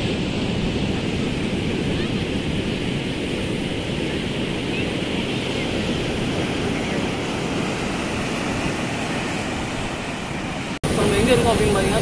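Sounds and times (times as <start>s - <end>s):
surf breaking on rocks: 0.0s - 12.0s.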